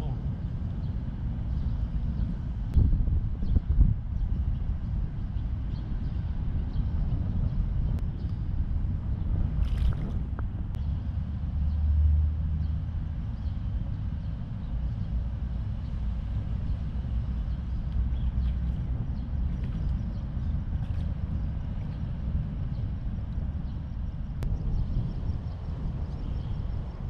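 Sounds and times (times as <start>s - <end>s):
traffic rumble on bridge overhead: 0.0s - 27.0s.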